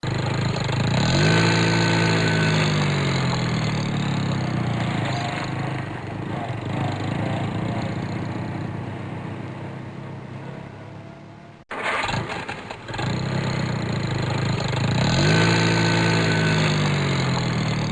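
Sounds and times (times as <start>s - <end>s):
car engine revving and idling: 0.0s - 17.9s.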